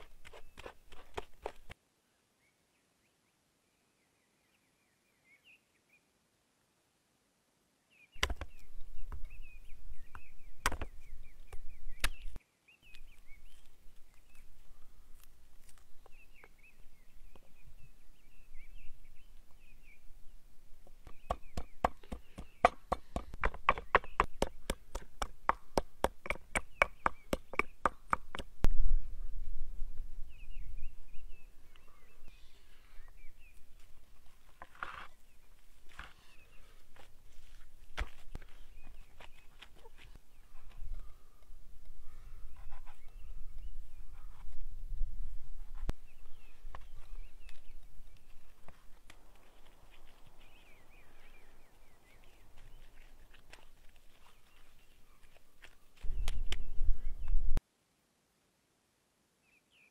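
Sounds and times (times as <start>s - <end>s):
birds chirping faintly: 7.6s - 29.2s, 29.9s - 57.6s.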